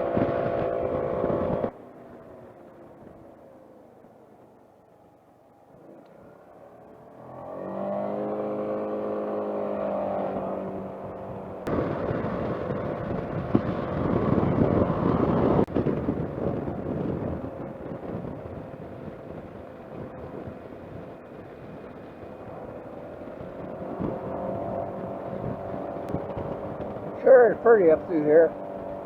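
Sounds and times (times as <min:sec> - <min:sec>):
scooter engine pulling away: 0:00.0 - 0:04.3, 0:05.8 - 0:29.0
wind and road noise: 0:00.0 - 0:29.0.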